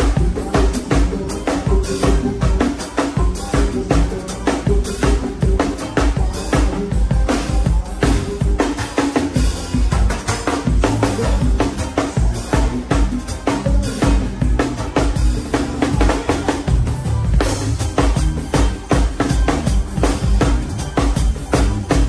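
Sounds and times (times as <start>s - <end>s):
drum kit groove: 0.0s - 22.0s
live band music: 0.0s - 22.0s.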